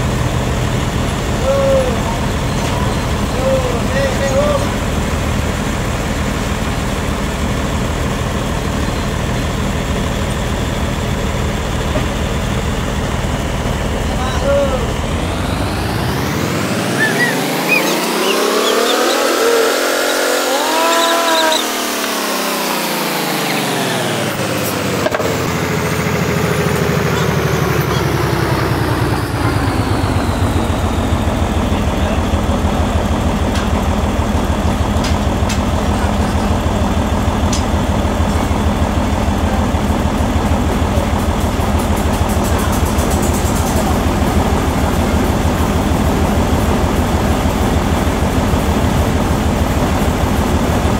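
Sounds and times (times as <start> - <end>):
forklift engine revving and idling: 0.0 - 50.9.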